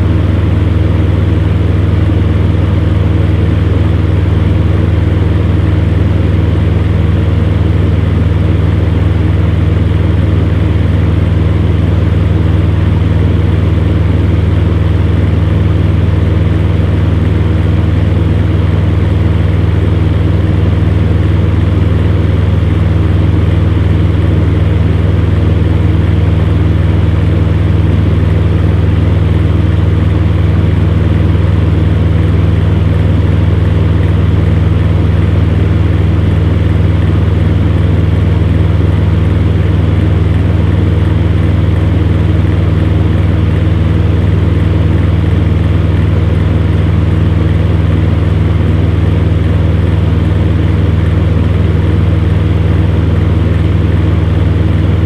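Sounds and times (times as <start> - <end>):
fan heater running: 0.0 - 55.0.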